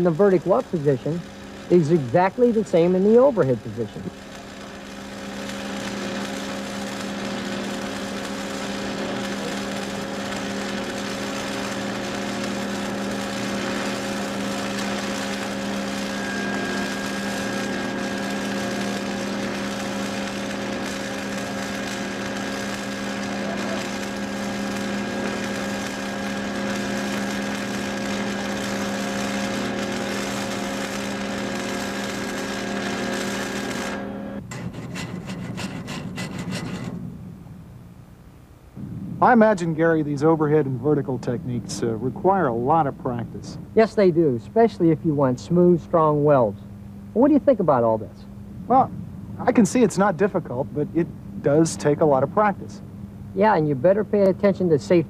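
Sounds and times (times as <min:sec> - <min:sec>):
welding arc hissing: 0:00.0 - 0:37.1, 0:38.5 - 0:55.0.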